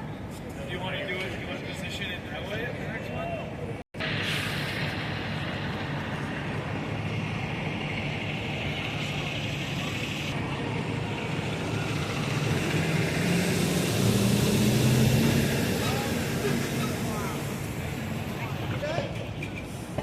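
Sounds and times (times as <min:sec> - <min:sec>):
vehicle engines humming: 0:04.0 - 0:20.0.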